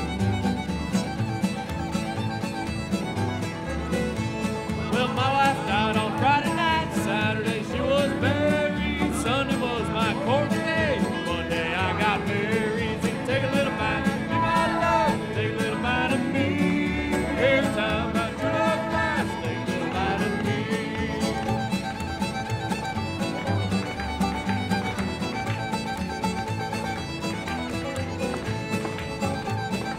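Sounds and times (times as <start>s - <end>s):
banjo: 0.0s - 29.9s
fiddle melody: 0.0s - 29.9s
guitar: 0.0s - 29.9s
upright bass: 0.0s - 29.9s.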